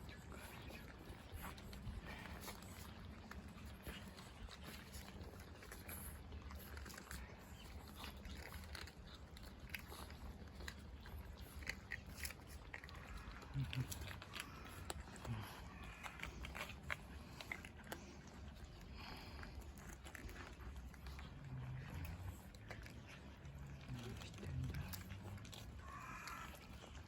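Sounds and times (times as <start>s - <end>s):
cats crunching dry food: 0.0s - 27.0s.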